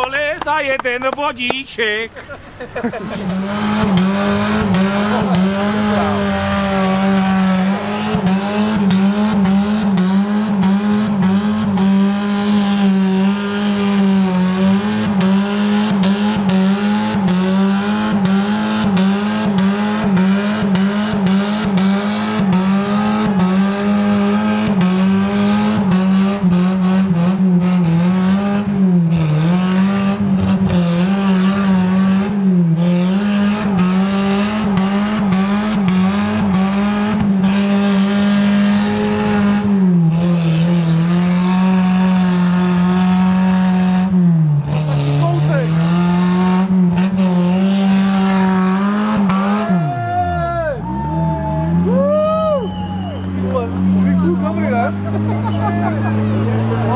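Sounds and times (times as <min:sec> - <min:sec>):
engine at high revs: 0:02.1 - 0:56.9.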